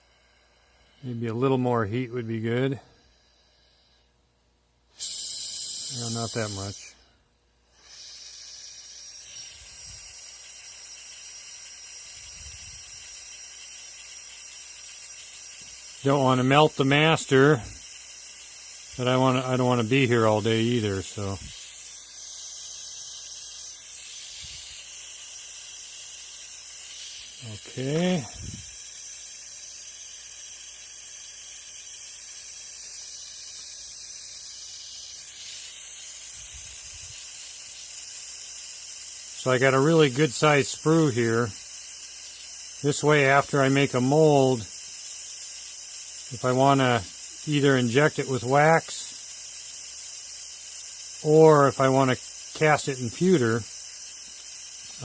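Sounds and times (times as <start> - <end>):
torch flame hissing: 0.0 - 1.7, 4.9 - 7.1, 7.7 - 55.0.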